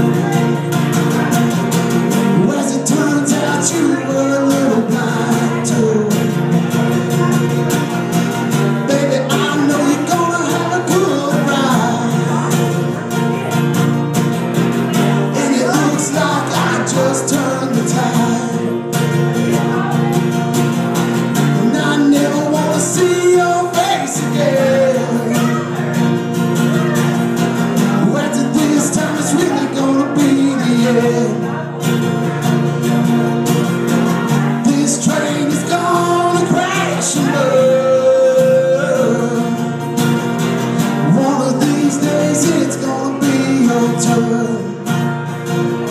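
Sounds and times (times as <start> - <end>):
person singing: 0.0 - 7.7, 8.5 - 13.8, 14.8 - 20.5, 21.3 - 32.9, 33.5 - 39.9, 40.6 - 45.1
live band playing: 0.0 - 45.9.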